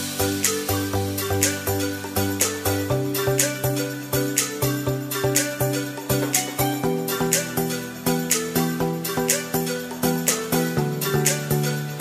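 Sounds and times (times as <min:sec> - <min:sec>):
plucked notes over beat: 0:00.0 - 0:12.0.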